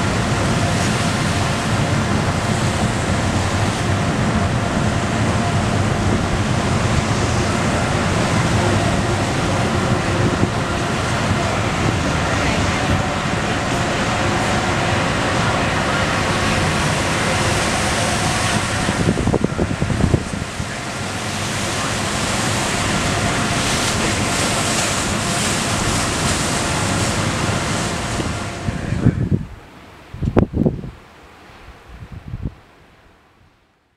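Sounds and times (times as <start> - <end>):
wind buffeting microphone: 0.0 - 31.0, 31.6 - 32.6
open sea rushing: 0.0 - 33.2.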